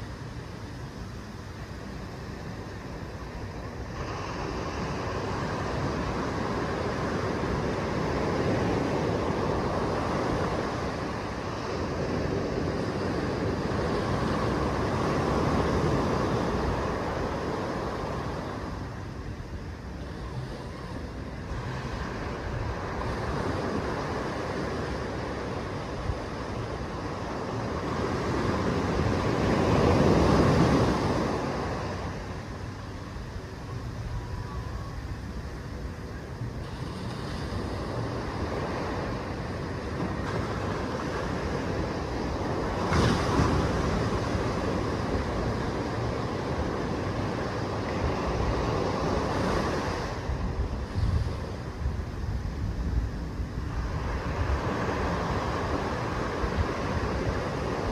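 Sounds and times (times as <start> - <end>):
small waves breaking on beach: 0.0 - 57.9.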